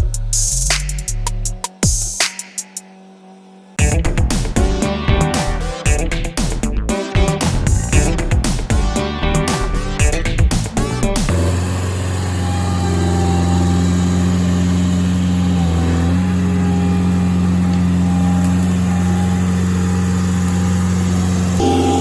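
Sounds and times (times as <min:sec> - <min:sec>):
loader engine running: 0:03.8 - 0:22.0.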